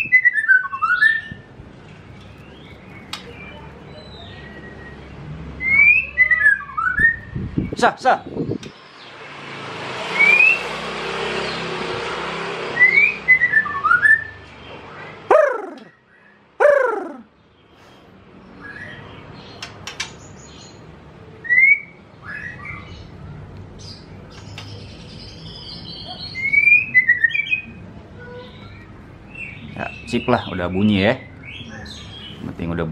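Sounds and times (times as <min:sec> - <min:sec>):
bird singing: 0:00.0 - 0:09.2, 0:12.8 - 0:32.9.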